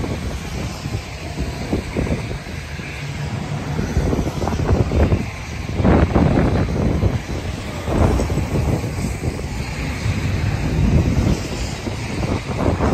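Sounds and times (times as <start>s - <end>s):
diesel locomotive rumble: 0.0s - 12.9s
wind buffeting microphone: 0.0s - 12.9s.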